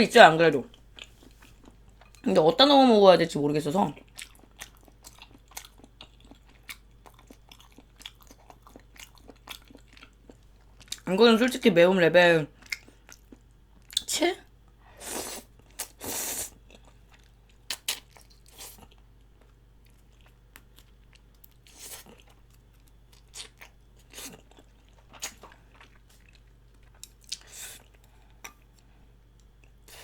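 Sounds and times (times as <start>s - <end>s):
person chewing and crunching: 0.7s - 2.3s, 3.9s - 11.1s, 12.5s - 14.1s, 15.6s - 30.0s.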